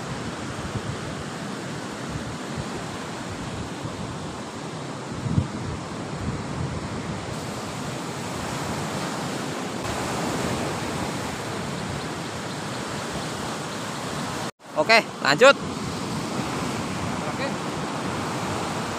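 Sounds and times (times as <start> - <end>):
wind on microphone: 0.0 - 14.5, 15.6 - 18.9
sea surf washing on beach: 0.0 - 18.9.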